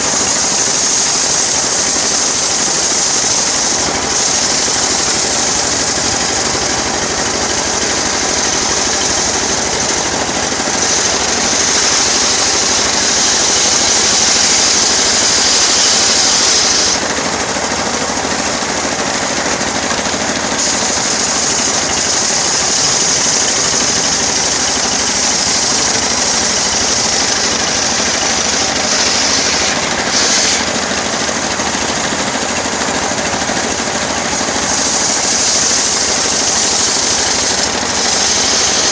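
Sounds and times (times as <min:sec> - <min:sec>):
high-pitched sawing hiss: 0:00.0 - 0:17.3, 0:20.5 - 0:38.9
circular sawmill running: 0:00.0 - 0:38.9.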